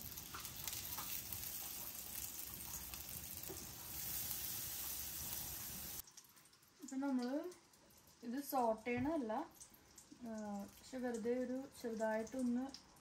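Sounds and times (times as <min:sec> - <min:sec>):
butter sizzling in a pan: 0:00.0 - 0:12.6.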